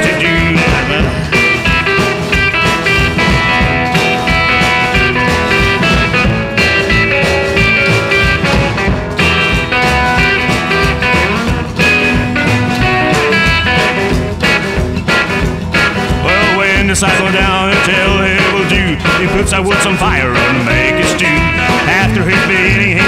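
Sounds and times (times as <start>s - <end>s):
rockabilly guitar with bass and drums: 0.0s - 23.0s.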